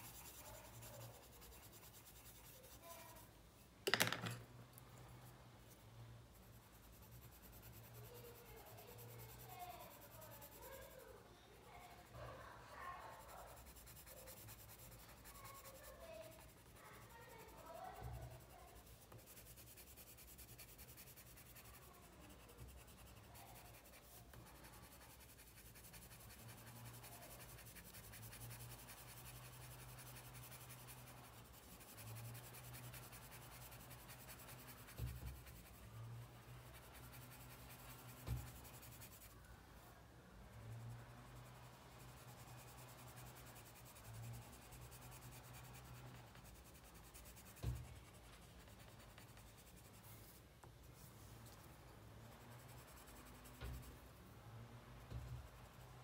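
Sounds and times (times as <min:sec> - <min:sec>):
pencil scratching on paper: 0:00.0 - 0:03.3, 0:05.0 - 0:39.4, 0:40.5 - 0:56.0.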